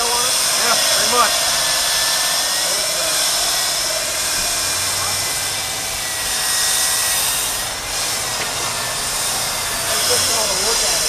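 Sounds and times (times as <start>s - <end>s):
core drill boring into concrete: 0.0s - 11.0s.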